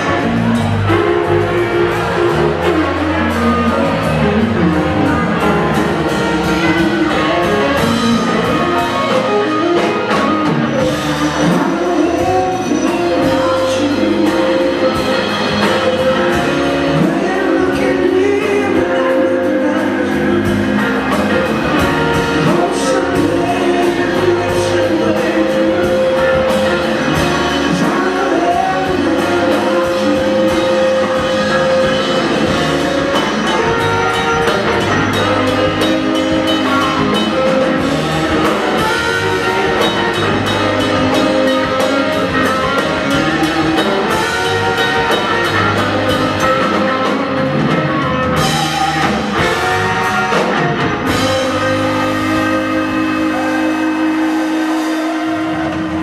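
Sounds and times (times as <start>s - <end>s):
bass guitar: 0.0s - 56.0s
drum kit: 0.0s - 56.0s
electric guitar: 0.0s - 56.0s
keyboards: 0.0s - 56.0s
lead vocal singing: 6.0s - 56.0s.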